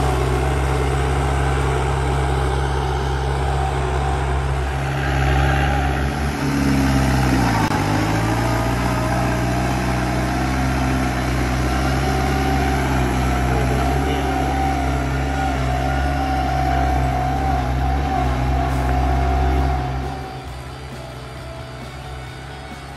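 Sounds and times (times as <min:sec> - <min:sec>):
tractor diesel engine under load: 0:00.0 - 0:22.9.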